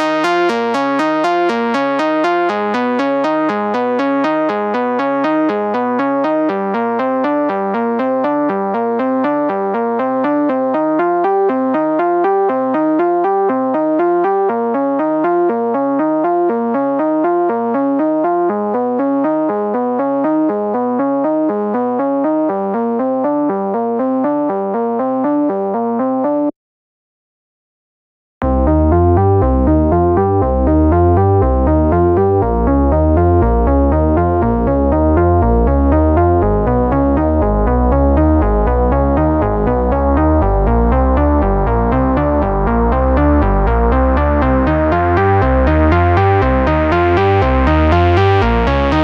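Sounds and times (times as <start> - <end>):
synthesizer saw-wave sequence: 0.0 - 26.5, 28.4 - 49.0.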